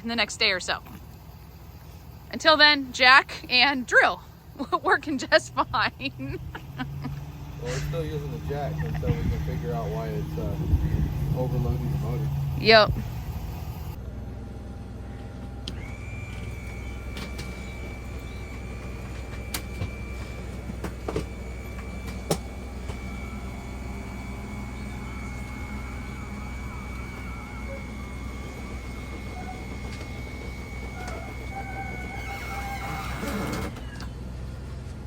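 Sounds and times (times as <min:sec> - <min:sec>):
low motor hum: 0:00.0 - 0:35.0
electric motor whine: 0:00.2 - 0:35.0.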